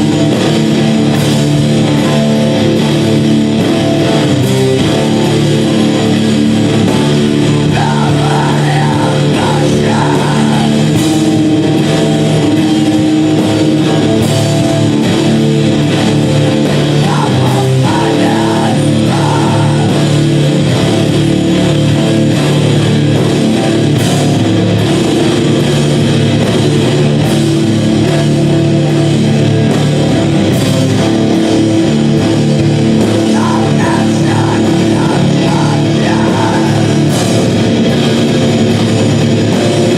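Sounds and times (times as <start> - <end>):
heavy rock music with electric guitar: 0.0 - 39.9.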